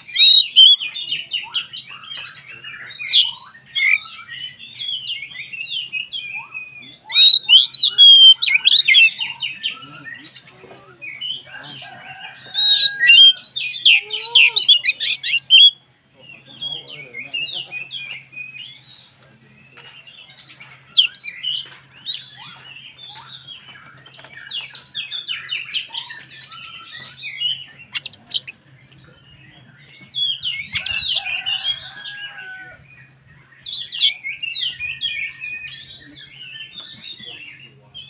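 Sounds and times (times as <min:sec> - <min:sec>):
bird singing warbled song: 0:00.0 - 0:38.0.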